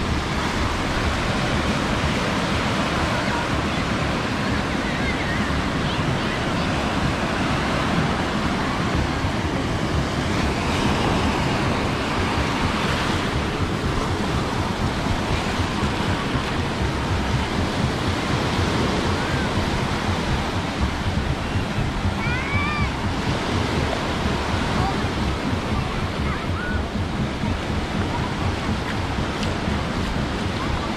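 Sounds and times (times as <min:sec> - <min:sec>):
sea surf on sandy shore: 0:00.0 - 0:30.9
wind rumbling on microphone: 0:00.0 - 0:30.9.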